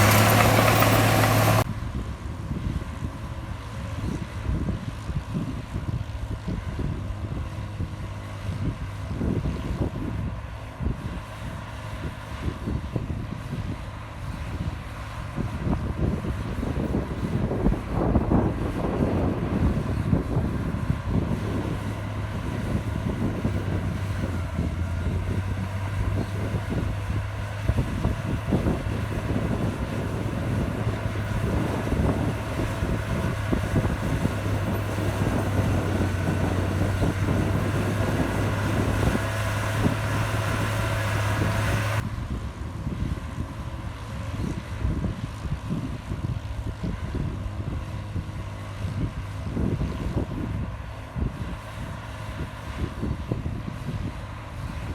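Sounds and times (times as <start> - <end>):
bulldozer diesel engine working: 0.0 - 54.9
wind buffeting microphone: 0.0 - 54.9.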